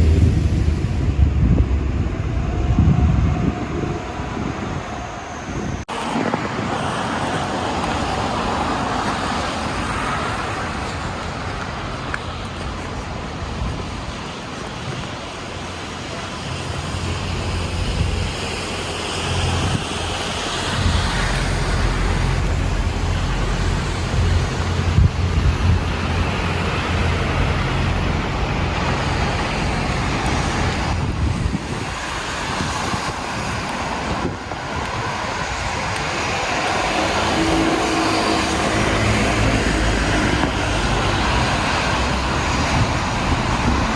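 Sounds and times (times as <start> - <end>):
city street traffic: 0.0 - 43.9
wind buffeting microphone: 0.0 - 43.9.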